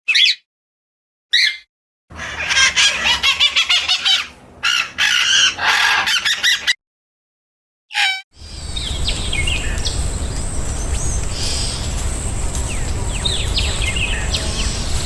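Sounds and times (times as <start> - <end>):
birds calling: 1.4 - 6.8, 8.0 - 15.0.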